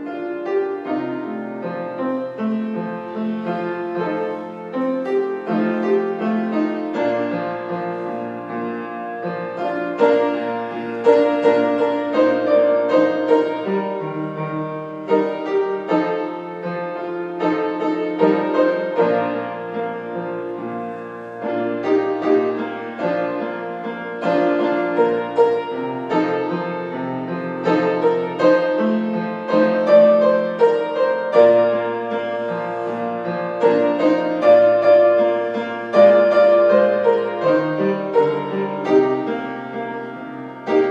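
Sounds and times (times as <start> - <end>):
slow piano piece: 0.0 - 40.9.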